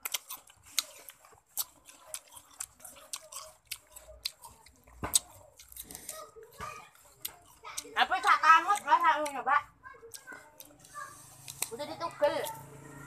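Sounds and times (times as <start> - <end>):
chewing and wet mouth clicks: 0.0 - 6.2, 6.9 - 12.8.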